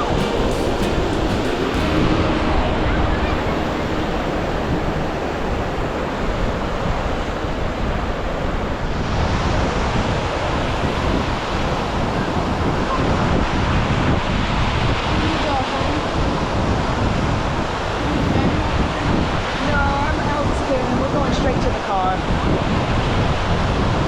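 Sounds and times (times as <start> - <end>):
waves breaking on a beach: 0.0 - 24.0
wind buffeting microphone: 0.0 - 24.0.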